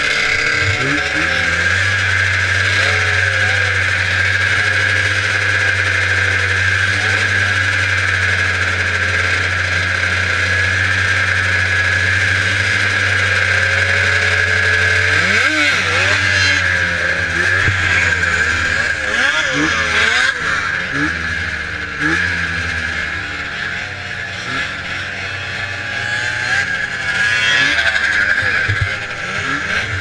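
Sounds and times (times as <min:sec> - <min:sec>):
snowmobile engine idling and revving: 0:00.0 - 0:30.0.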